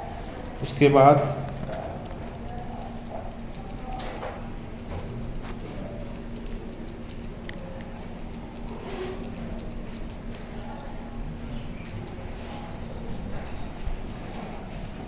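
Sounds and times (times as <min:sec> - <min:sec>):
hands rubbing with light clicks: 0:00.0 - 0:00.8, 0:01.5 - 0:15.0
steady low hum: 0:00.0 - 0:15.0.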